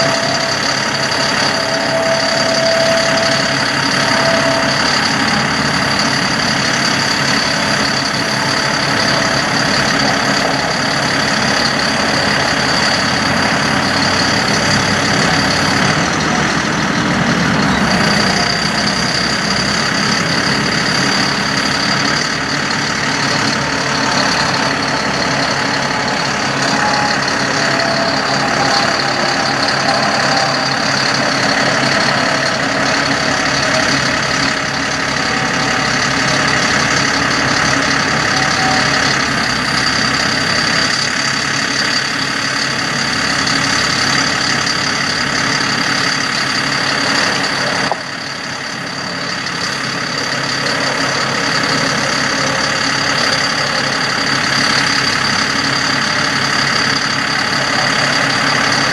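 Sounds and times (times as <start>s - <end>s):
high hydraulic whine: 0.0s - 58.9s
truck engine idling: 0.0s - 58.9s.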